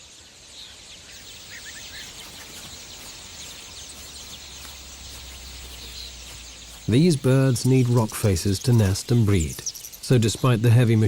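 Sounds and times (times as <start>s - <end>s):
background hiss: 0.0s - 11.0s
starlings calling: 0.0s - 11.0s.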